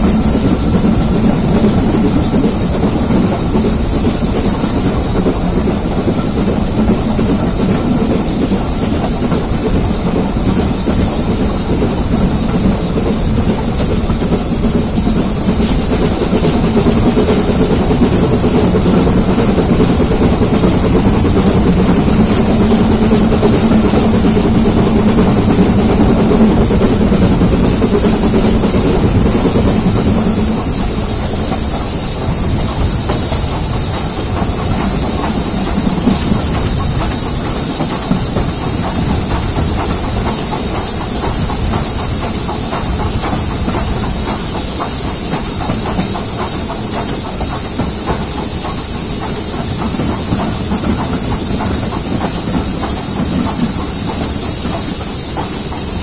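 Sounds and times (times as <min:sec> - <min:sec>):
steam hiss: 0:00.0 - 0:56.0
train wheels rumbling on rails: 0:00.0 - 0:56.0.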